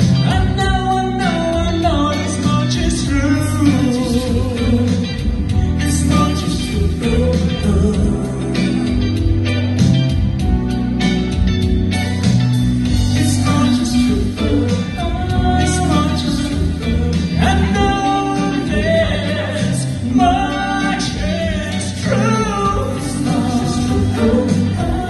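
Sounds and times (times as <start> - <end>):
male trio singing pop ballad: 0.0 - 9.4, 13.0 - 25.0
backing track with bass and beat: 0.0 - 25.0.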